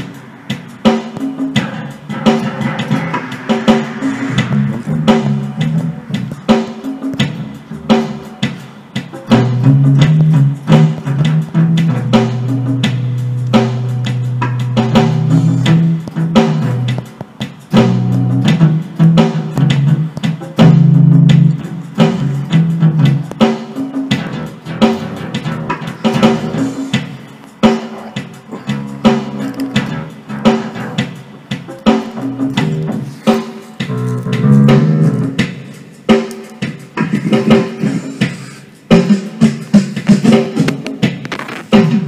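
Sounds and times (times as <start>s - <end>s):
synthesizer keyboard music: 0.0s - 8.5s, 9.2s - 31.1s, 31.7s - 42.0s
steady drum beat: 0.0s - 42.0s.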